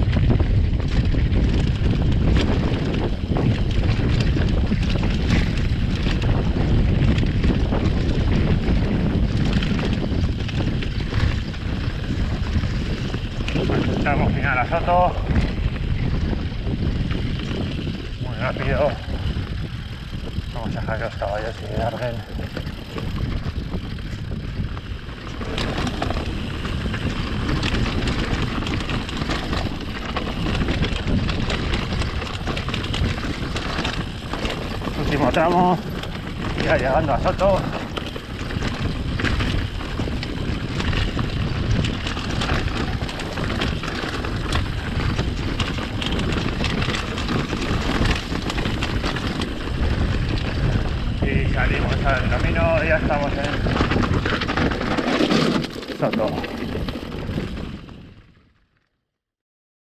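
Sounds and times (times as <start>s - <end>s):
bike rattles and knocks: 0.0s - 58.2s
wind buffeting microphone: 0.0s - 58.6s
bike tyres rumbling: 0.0s - 58.7s.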